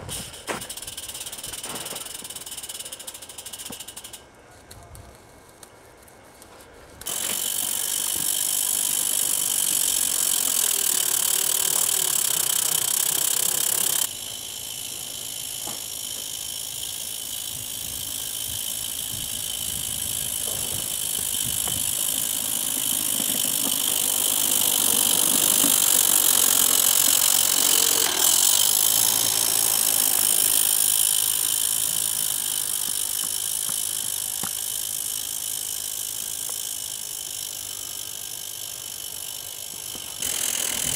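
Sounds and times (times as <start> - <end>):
steam locomotive hissing: 7.0 - 40.9.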